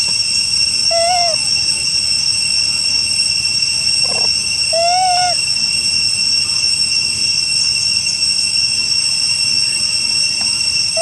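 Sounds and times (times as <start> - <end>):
insect chorus droning: 0.0 - 11.0.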